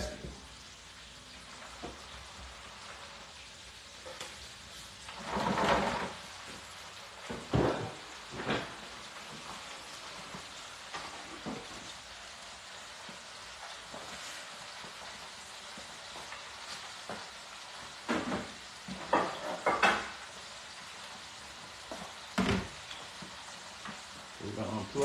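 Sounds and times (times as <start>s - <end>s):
oil sizzling in deep fryer: 0.0s - 25.0s.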